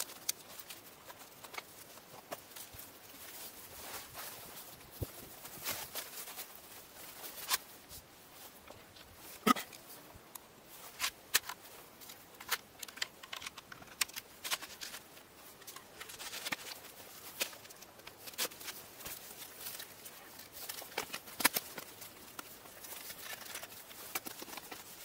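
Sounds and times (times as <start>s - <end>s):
gear clicking and crunching in snow: 0.0s - 25.0s.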